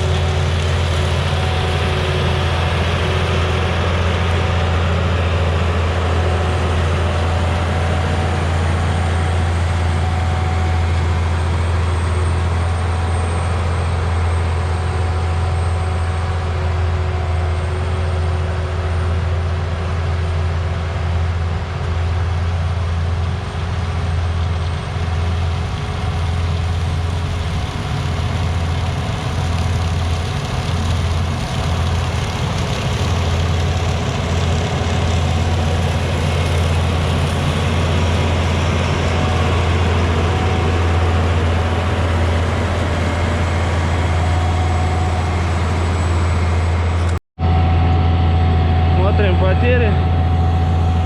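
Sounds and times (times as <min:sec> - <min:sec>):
diesel machinery engine hum: 0:00.0 - 0:51.0.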